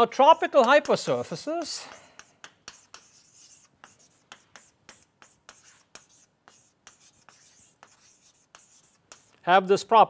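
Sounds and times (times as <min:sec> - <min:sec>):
chalk tapping and scratching: 0:00.0 - 0:09.5.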